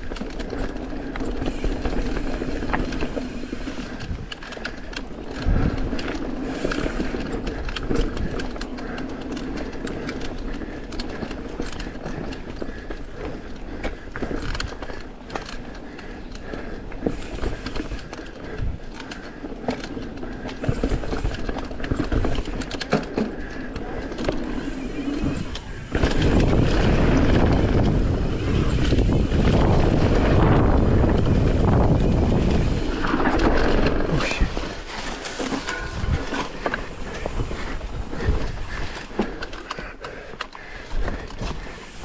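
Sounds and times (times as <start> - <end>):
bike rattling over bumps: 0.0 - 42.0
tyres rushing over dirt: 0.0 - 42.0.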